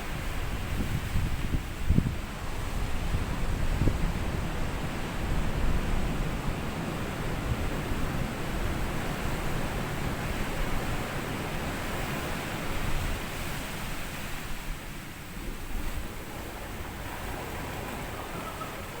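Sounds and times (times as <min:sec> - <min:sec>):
small waves washing on beach: 0:00.0 - 0:19.0
wind rumble on microphone: 0:00.0 - 0:19.0.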